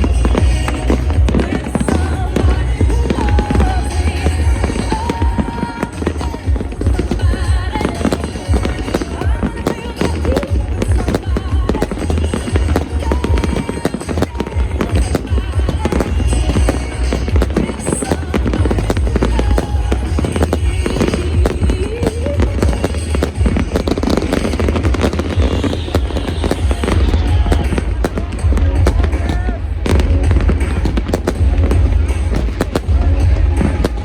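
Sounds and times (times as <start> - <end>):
fireworks bangs and crackles: 0.0 - 34.0
music playing: 0.0 - 34.0.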